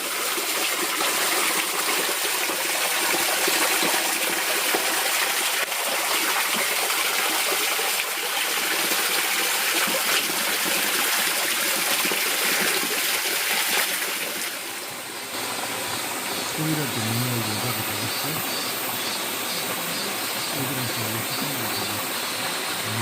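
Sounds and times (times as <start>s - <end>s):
mountain water rushing: 0.0s - 23.0s.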